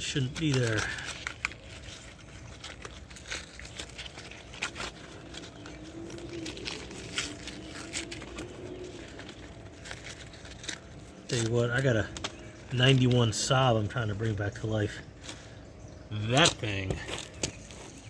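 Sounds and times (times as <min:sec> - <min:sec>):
faint wavering hum: 0:00.0 - 0:18.0
paper filter element crinkling: 0:00.0 - 0:18.0.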